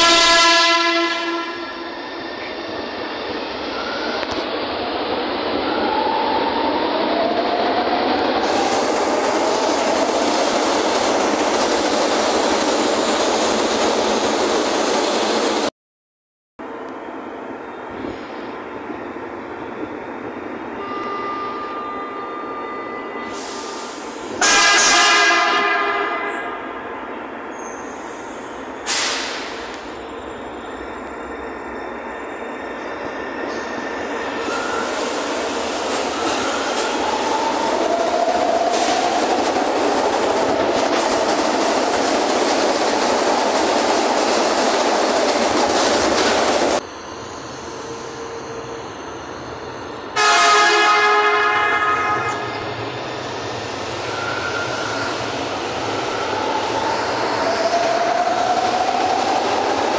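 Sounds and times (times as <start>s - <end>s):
metro train passing in tunnel: 0.0s - 15.7s, 16.6s - 59.9s.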